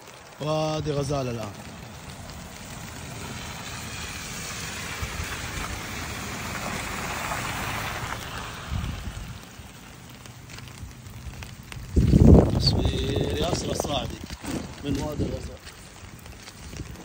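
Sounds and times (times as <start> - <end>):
car tyres splashing through water: 0.0 - 17.0
steady rain: 0.0 - 17.0.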